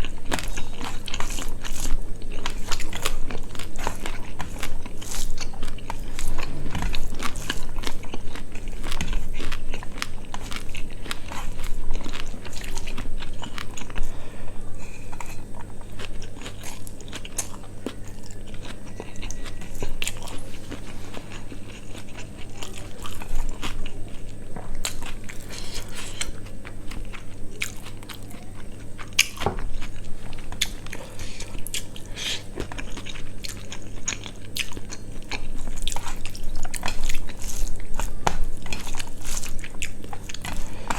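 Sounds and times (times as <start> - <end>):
chewing and biting food: 0.0 - 40.9
low steady hum: 0.0 - 40.9.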